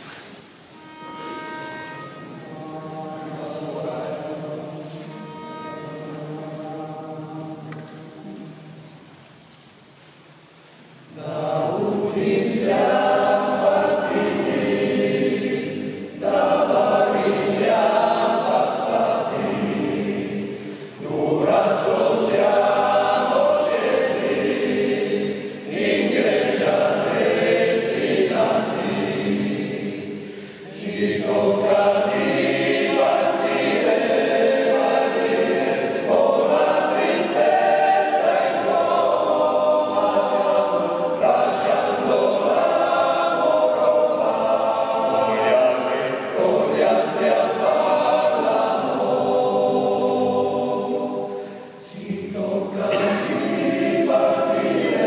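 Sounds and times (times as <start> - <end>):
men's choir singing a cappella: 0.9 - 8.9, 11.0 - 55.0.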